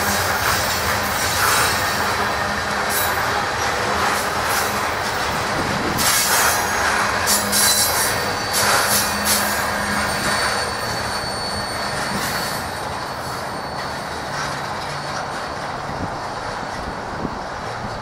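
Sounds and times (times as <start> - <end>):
high wheel squeal: 0.0 - 4.9, 6.0 - 15.8
train cars rolling past: 0.0 - 18.0.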